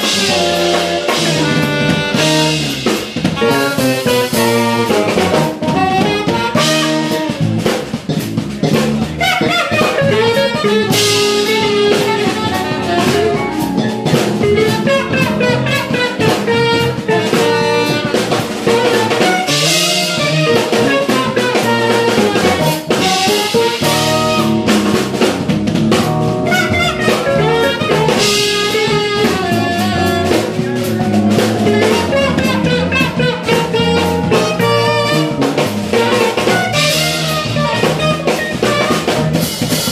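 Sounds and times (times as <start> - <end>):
saxophone: 0.0 - 7.9, 9.0 - 39.9
drum kit: 0.0 - 39.9
electric bass: 0.0 - 39.9
electric guitar: 0.0 - 39.9
keyboards: 0.0 - 39.9.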